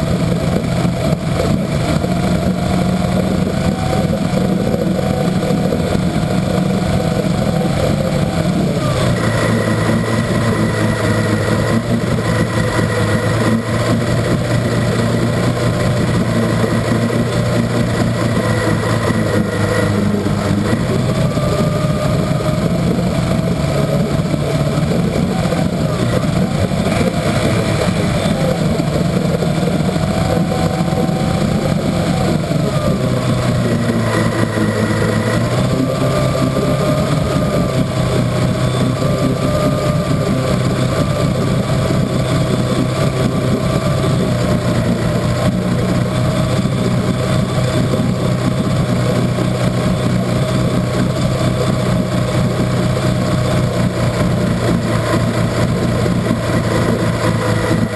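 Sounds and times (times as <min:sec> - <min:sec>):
outboard motor running: 0:00.0 - 0:57.9.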